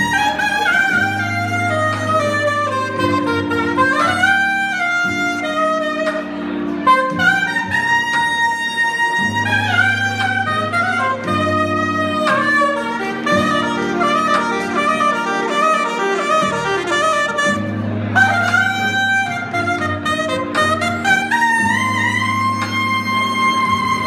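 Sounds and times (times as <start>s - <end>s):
saxophone playing jazzy runs: 0.0s - 24.0s.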